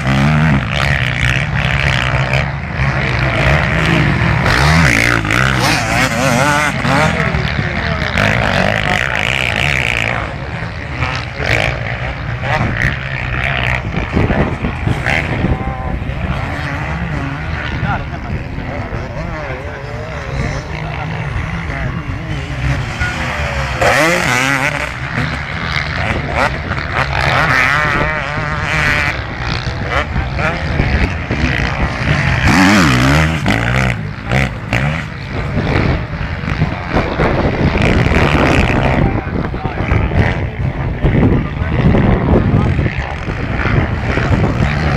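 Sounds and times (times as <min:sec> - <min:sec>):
motorcycle engines revving: 0:00.0 - 0:44.9
voices: 0:00.0 - 0:44.9.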